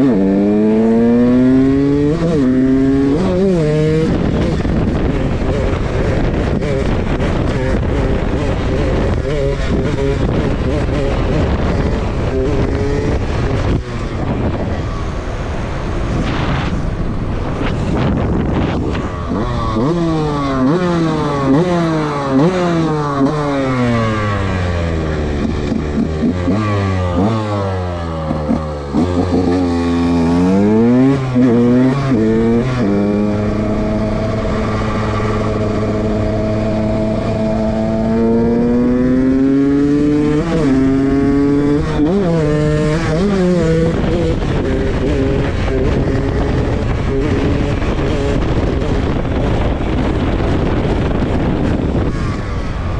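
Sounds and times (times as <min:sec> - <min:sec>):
dirt bike engine revving: 0:00.0 - 0:52.9
wind and road noise: 0:00.0 - 0:52.9.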